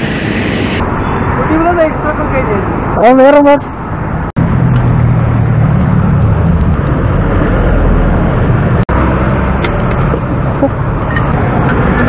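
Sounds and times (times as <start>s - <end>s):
road traffic engine drone: 0.0s - 12.0s.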